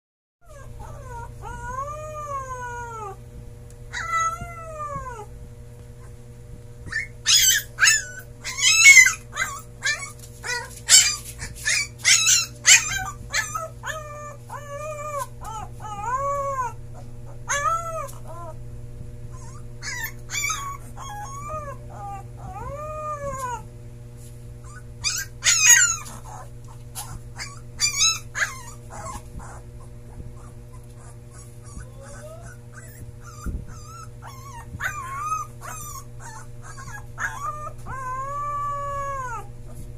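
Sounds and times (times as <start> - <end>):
puppy howling and yipping: 0.4 - 3.2, 3.9 - 5.3, 6.9 - 18.6, 19.3 - 23.7, 24.6 - 39.5.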